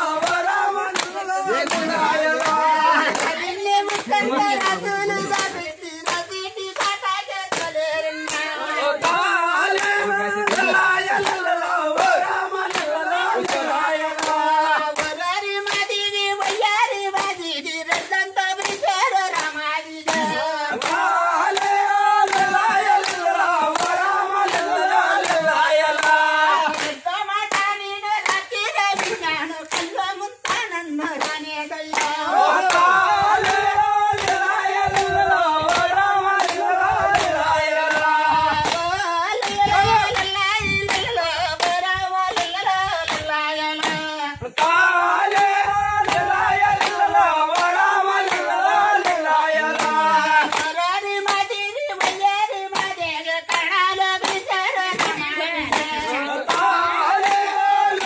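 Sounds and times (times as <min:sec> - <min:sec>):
people clapping in rhythm: 0:00.0 - 0:58.0
people singing together: 0:00.0 - 0:58.0.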